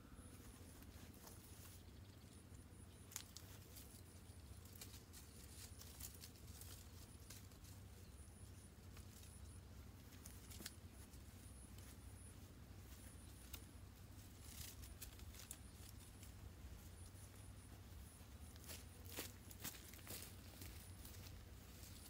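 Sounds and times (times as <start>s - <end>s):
leafy branches rustling: 3.0s - 22.0s.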